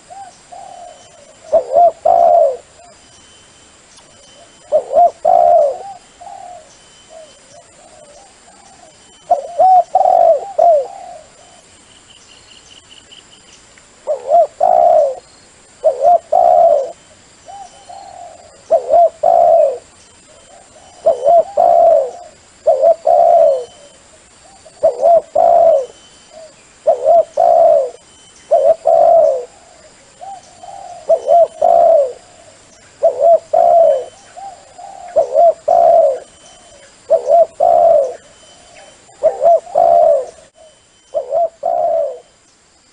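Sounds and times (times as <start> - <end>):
dove cooing: 0.0 - 3.0, 4.1 - 11.7, 14.0 - 42.3
faint high-pitched whine: 0.0 - 42.9.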